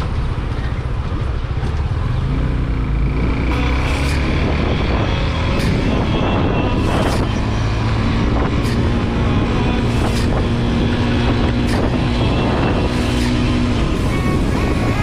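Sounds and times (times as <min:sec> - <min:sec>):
rush of riding wind: 0:00.0 - 0:15.0.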